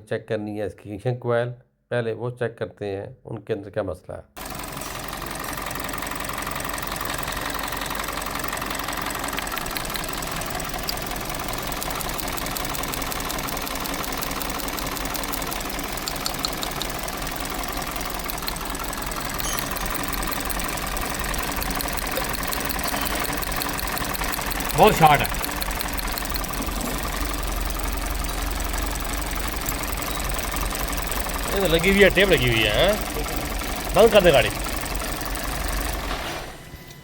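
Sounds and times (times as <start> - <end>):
rough idling engine ticking: 4.4 - 36.0.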